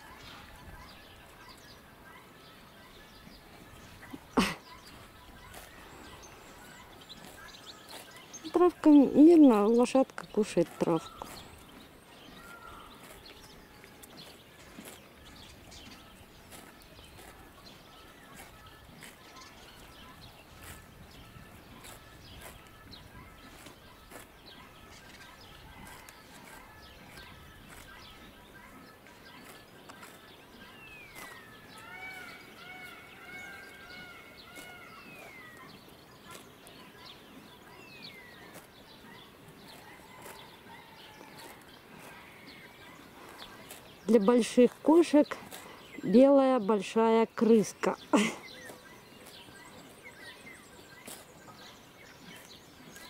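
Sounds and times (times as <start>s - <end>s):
bird singing: 0.0s - 53.0s.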